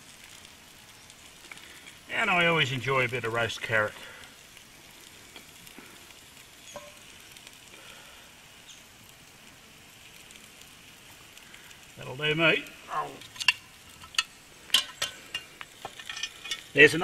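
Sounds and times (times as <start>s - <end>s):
roast sizzling: 0.0s - 17.0s.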